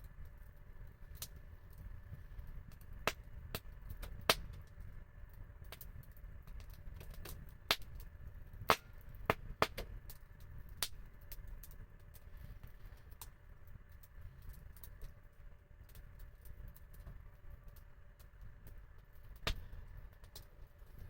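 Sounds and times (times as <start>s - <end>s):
low steady rumble: 0.0s - 21.0s
wood fire crackling: 0.0s - 21.0s.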